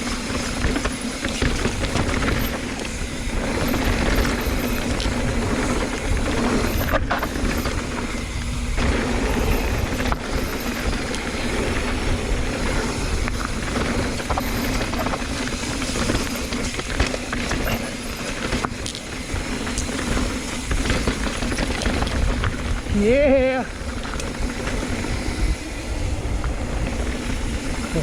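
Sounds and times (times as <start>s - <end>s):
tyre rumble on dirt and rock: 0.0s - 25.2s
bike rattling and knocking: 0.0s - 28.0s
wind rush: 0.0s - 28.0s.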